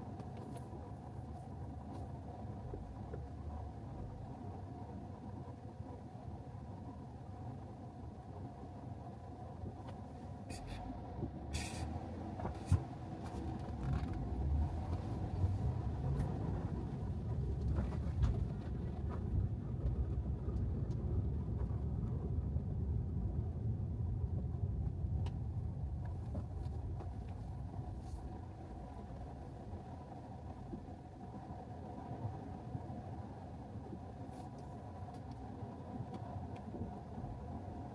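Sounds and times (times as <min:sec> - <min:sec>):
road and tyre rumble: 0:00.0 - 0:37.9.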